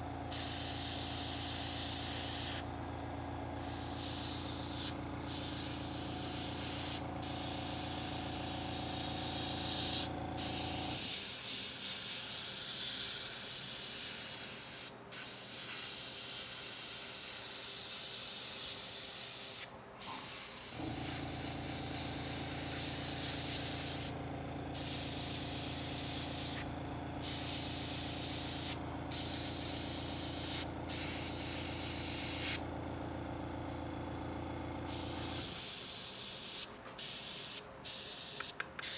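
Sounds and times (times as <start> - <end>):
air compressor humming: 0.0 - 13.0, 18.6 - 38.9
airbrush hissing: 0.3 - 2.7, 3.6 - 32.6, 34.9 - 38.9.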